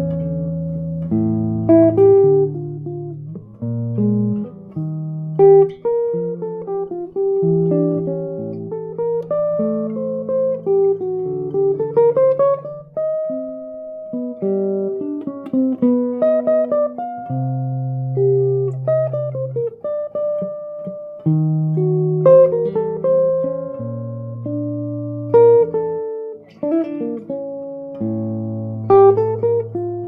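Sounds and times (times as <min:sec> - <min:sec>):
jazz guitar playing: 0:00.0 - 0:30.0.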